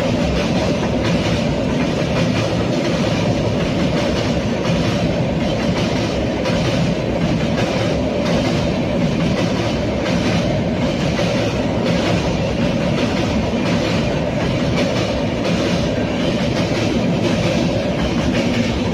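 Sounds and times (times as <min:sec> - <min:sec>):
clickety-clack of wheels: 0:00.0 - 0:18.9
train rumbling on rails: 0:00.0 - 0:18.9.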